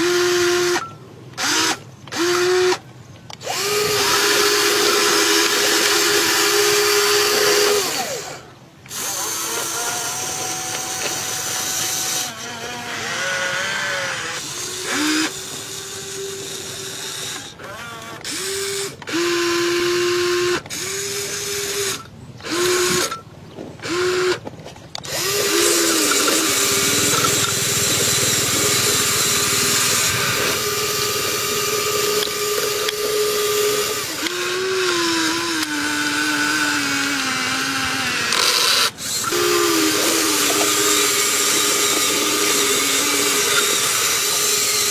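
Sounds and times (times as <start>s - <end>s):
toy gear motors whining: 0.0s - 44.9s.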